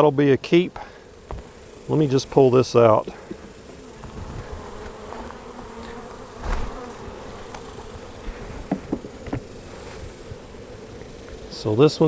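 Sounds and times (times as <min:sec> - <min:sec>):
bees buzzing: 0:00.8 - 0:12.0.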